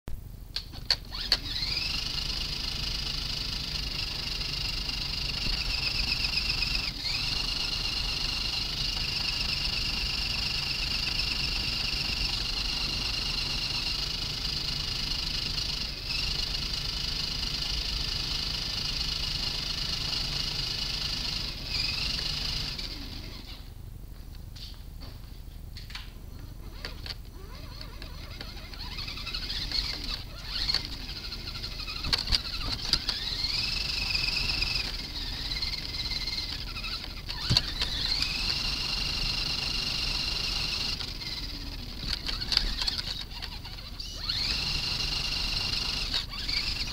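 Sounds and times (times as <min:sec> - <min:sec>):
electric motor and gears whining: 0:00.8 - 0:23.7, 0:26.4 - 0:46.9.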